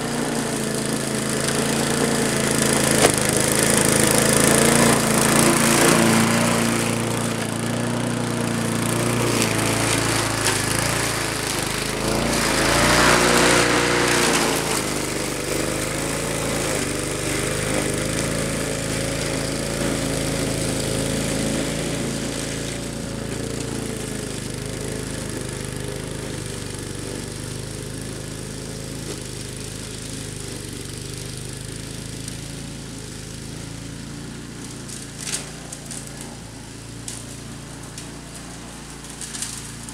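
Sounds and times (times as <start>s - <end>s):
lawn mower engine running: 0.0s - 39.9s
mower cutting tall weeds: 0.0s - 39.9s.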